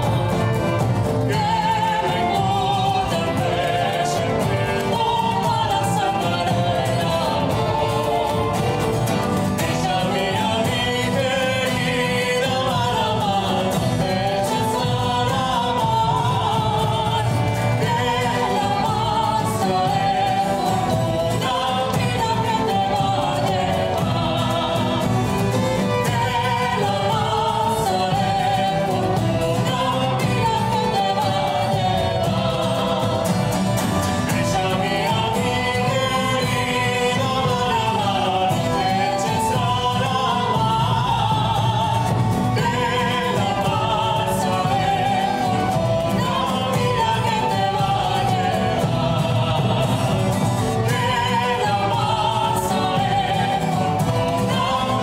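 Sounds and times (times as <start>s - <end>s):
guitar: 0.0s - 55.0s
hand drums: 0.0s - 55.0s
violins: 0.0s - 55.0s.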